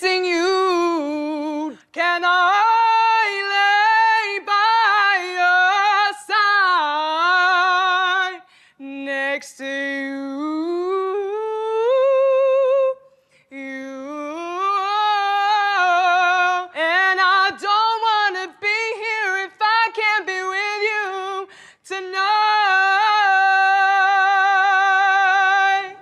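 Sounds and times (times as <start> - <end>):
woman singing unaccompanied: 0.0 - 26.0.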